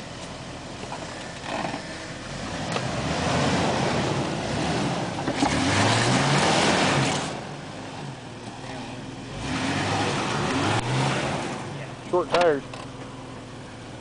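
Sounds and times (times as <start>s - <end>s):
engine working under load: 0.0s - 14.0s.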